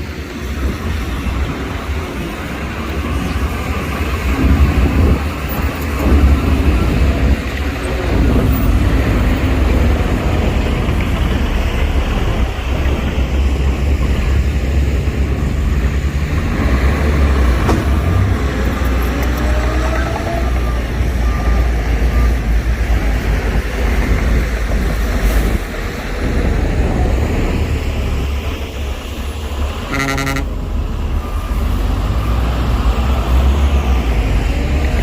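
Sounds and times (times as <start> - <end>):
heavy diesel machinery rumbling: 0.0 - 35.0.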